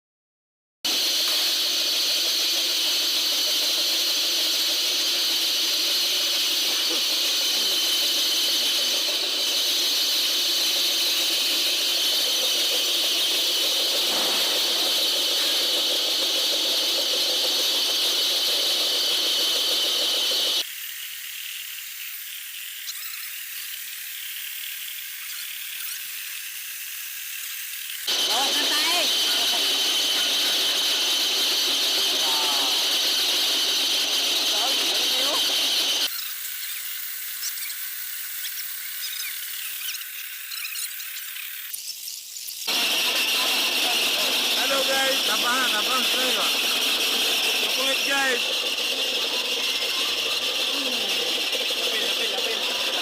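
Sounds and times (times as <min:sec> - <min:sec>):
grinder squealing whine: 0:00.9 - 0:53.0.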